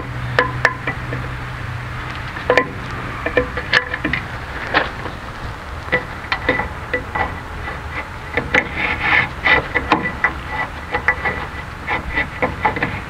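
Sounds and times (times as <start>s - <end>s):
metallic clicks and scrapes: 2.0s - 13.0s.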